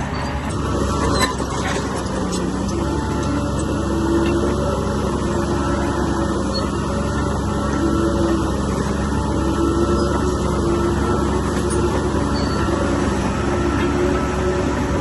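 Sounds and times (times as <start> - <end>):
diesel machinery engine rumbling: 0.0 - 15.0.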